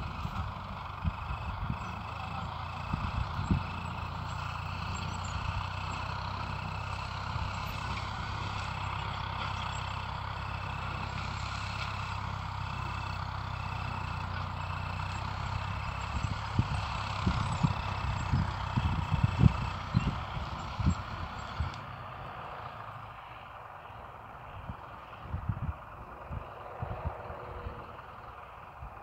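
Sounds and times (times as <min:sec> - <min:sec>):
farm machine engine humming: 0:00.0 - 0:29.0.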